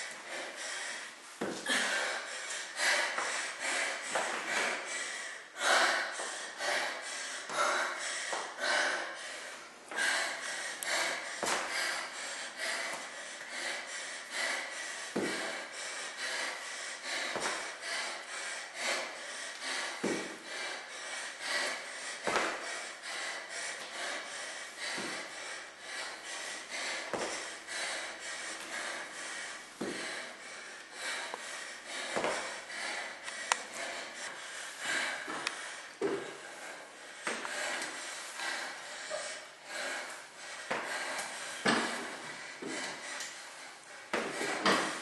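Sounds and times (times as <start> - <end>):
woman breathing hard: 0.0 - 45.0.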